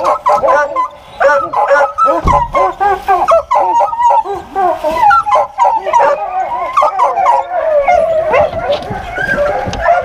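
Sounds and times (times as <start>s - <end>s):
hounds baying and yelping: 0.0s - 10.0s.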